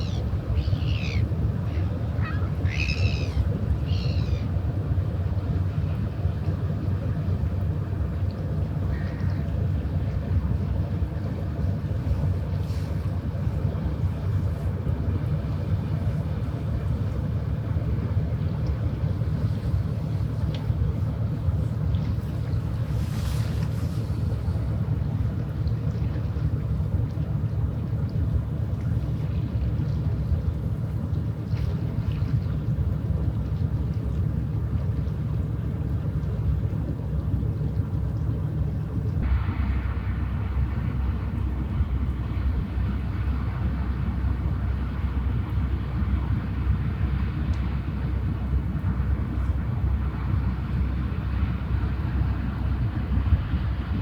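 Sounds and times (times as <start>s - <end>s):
ship engine droning: 0.0s - 54.0s.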